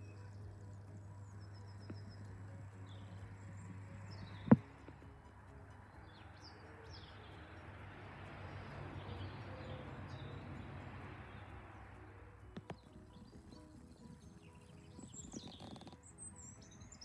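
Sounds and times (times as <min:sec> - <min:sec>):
small birds chirping: 0:00.0 - 0:17.0
soft rushing background: 0:00.0 - 0:17.0.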